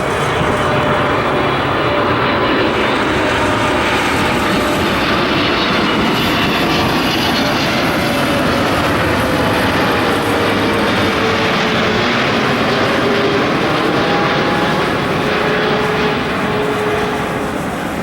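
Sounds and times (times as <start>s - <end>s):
faint turbine whine: 0.0s - 18.0s
jet airliner flying low past: 0.0s - 18.0s.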